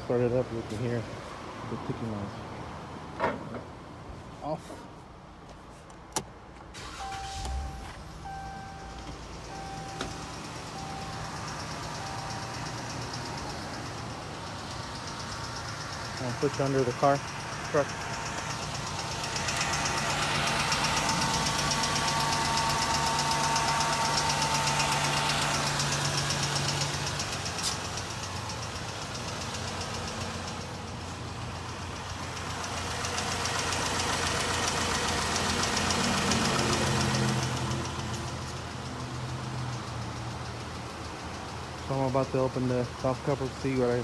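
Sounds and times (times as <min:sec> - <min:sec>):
engine running: 0:06.8 - 0:44.0.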